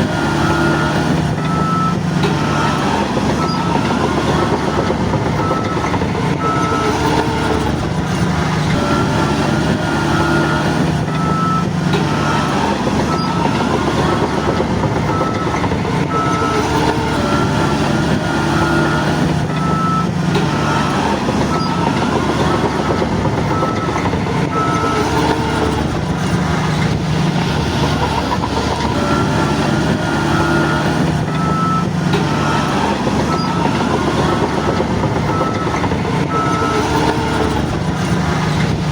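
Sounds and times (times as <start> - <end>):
reversing alarm beeps: 0.0 - 26.0, 26.9 - 37.8
bulldozer diesel engine working: 0.0 - 38.9.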